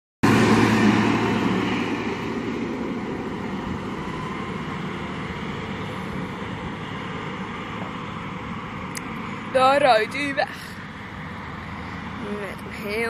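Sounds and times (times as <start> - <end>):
diesel loader engine running: 0.2 - 13.0.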